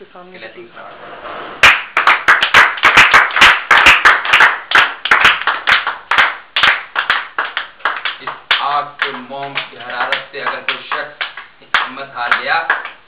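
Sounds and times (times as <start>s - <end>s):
hands clapping: 1.6s - 13.0s.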